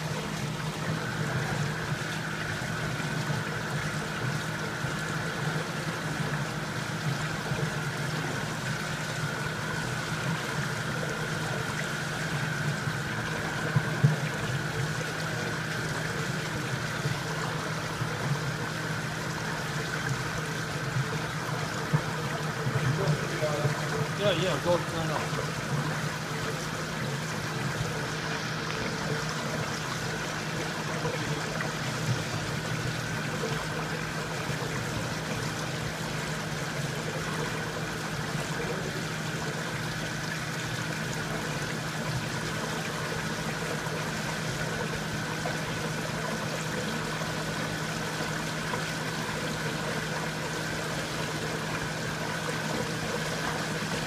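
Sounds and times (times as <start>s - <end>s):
low steady hum: 0.0s - 54.0s
rush like running water: 0.0s - 54.0s.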